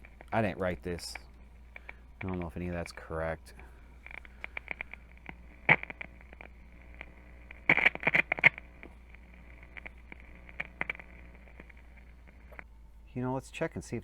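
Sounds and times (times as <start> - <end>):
sharp clicks and crackles: 0.0 - 3.2, 4.0 - 12.7
low steady hum: 0.0 - 14.0.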